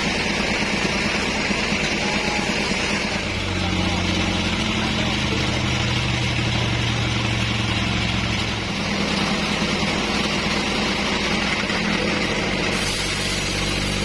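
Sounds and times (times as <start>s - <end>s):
bandsaw sawmill engine running: 0.0s - 14.0s.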